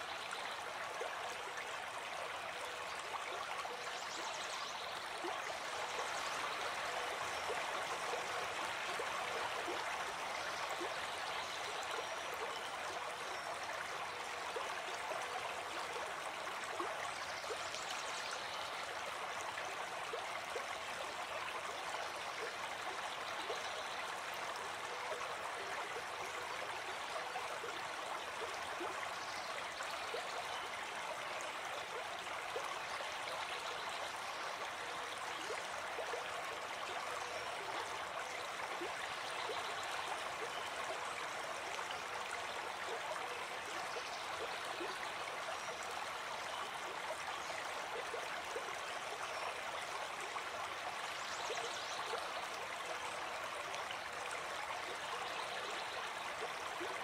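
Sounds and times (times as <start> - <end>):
water rushing and babbling: 0.0 - 57.0.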